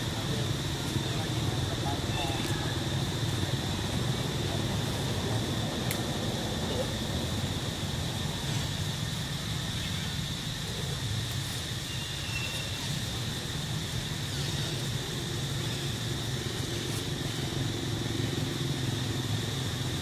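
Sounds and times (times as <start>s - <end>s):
constant low hum: 0.0s - 20.0s.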